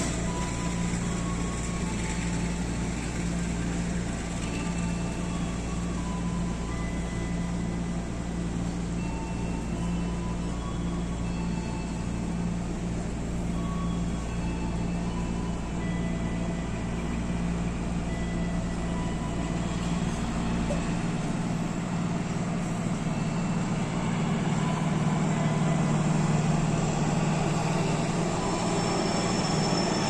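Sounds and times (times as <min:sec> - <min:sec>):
train engine humming: 0:00.0 - 0:30.0.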